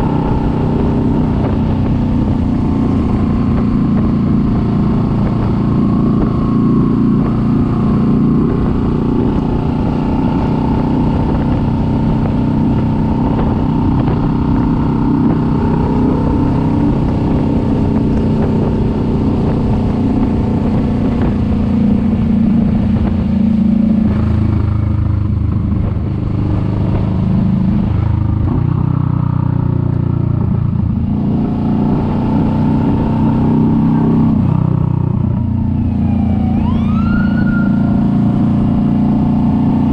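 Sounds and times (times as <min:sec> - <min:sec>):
motorcycle engine running: 0:00.0 - 0:36.4, 0:37.6 - 0:39.9.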